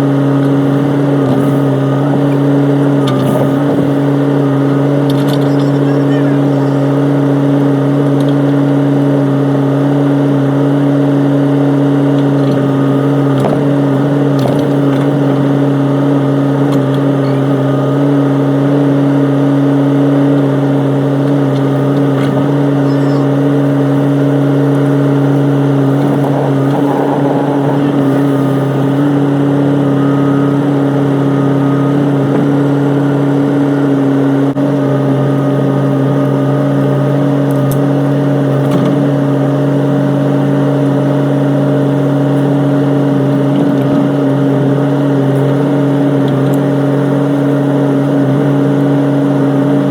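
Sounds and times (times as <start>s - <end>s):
excavator engine humming: 0.0s - 49.9s.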